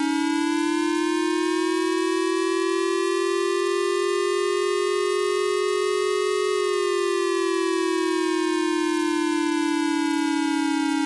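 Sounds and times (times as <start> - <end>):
siren rising in pitch: 0.0 - 11.0.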